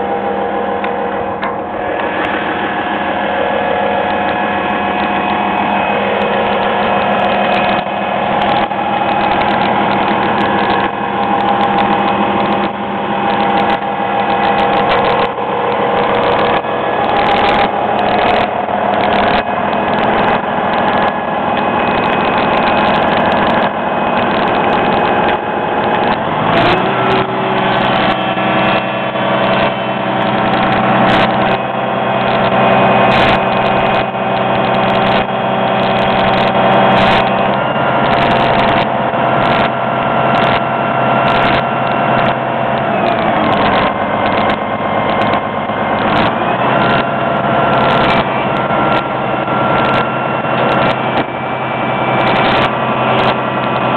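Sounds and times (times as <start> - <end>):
excavator diesel engine running: 0.0 - 53.9
short clicks: 5.0 - 51.4, 52.0 - 53.9.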